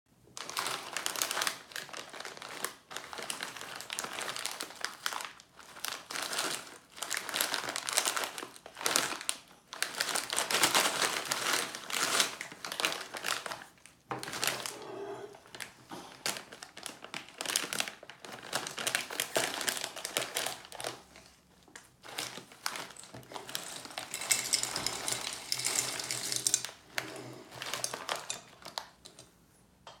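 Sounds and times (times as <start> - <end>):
plastic snack bag crinkling: 0.3 - 14.8, 15.4 - 29.3.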